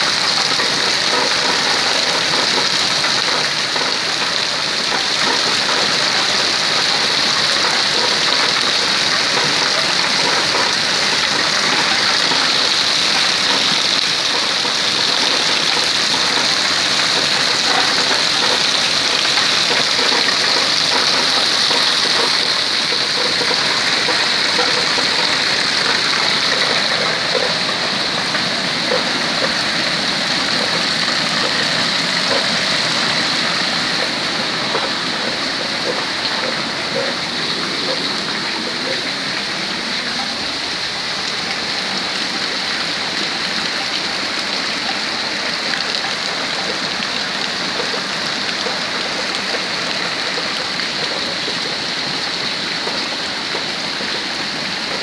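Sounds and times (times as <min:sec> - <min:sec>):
heavy rain falling: 0:00.0 - 0:55.0
runoff water streaming: 0:00.0 - 0:55.0.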